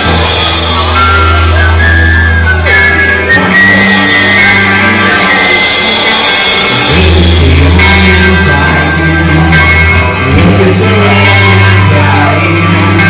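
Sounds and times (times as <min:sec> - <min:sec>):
bass guitar: 0:00.0 - 0:13.0
drums: 0:00.0 - 0:13.0
electric guitar lines: 0:00.0 - 0:13.0.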